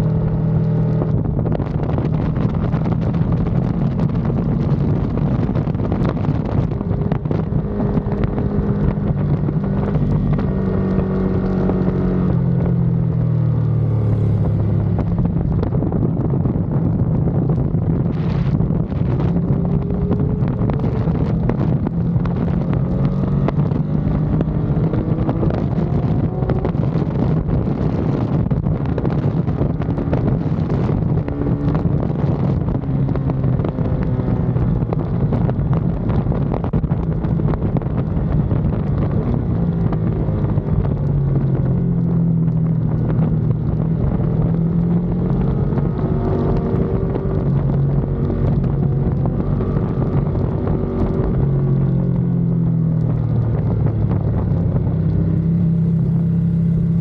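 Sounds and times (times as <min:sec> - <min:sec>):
motorcycle engine revving: 0:00.0 - 0:57.0
wind rushing on microphone: 0:00.0 - 0:57.0.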